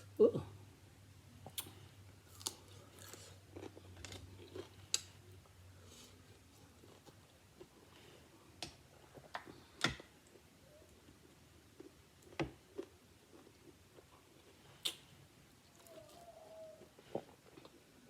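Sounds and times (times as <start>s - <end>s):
person chewing food: 1.4s - 18.0s.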